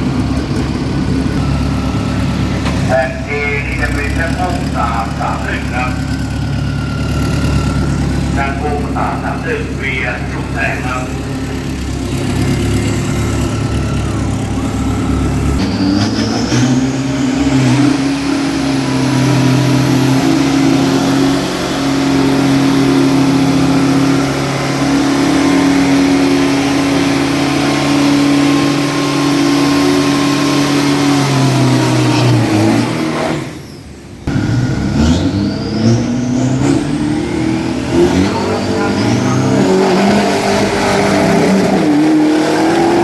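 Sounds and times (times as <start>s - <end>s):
pickup truck engine revving: 0.0s - 43.0s.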